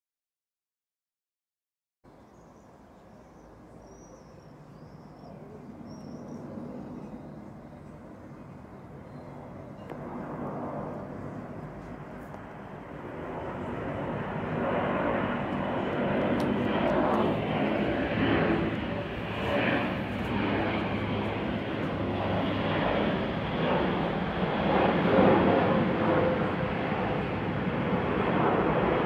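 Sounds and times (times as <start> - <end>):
propeller plane passing overhead: 2.1 - 29.0.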